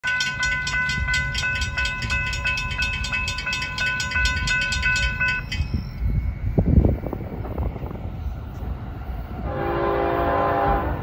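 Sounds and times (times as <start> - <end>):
railroad crossing bell ringing: 0.0 - 11.0.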